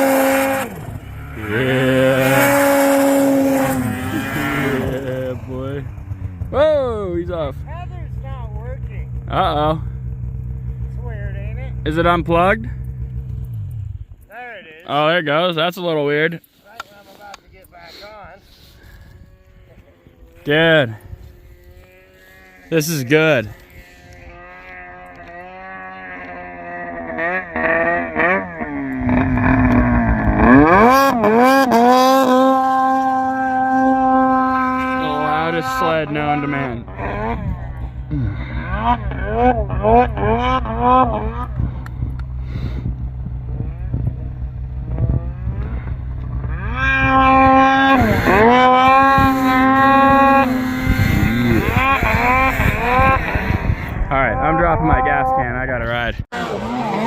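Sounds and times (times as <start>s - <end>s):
two-stroke snowmobile engine revving: 0.0s - 14.2s, 17.9s - 57.0s.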